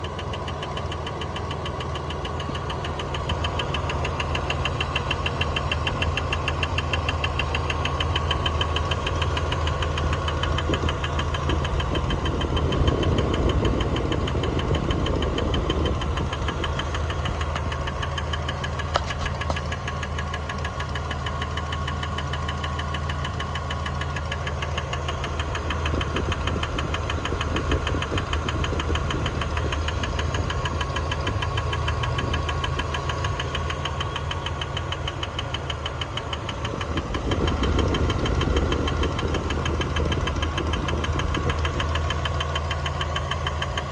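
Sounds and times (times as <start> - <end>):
car engine idling: 0.0 - 43.9
rapid rhythmic clicking: 0.0 - 43.9.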